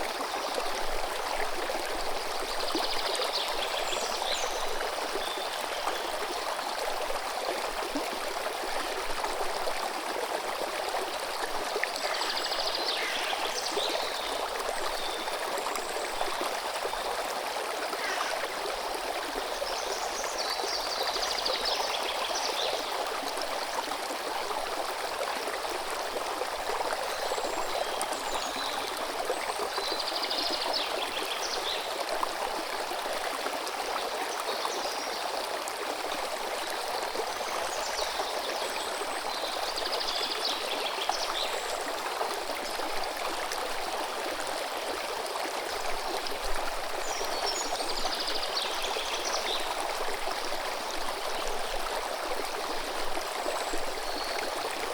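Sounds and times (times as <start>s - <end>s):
river water running: 0.0s - 54.9s.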